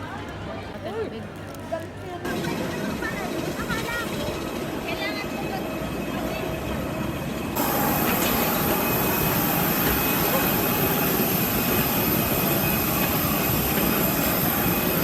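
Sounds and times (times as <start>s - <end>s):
airliner rushing noise: 2.3s - 15.0s.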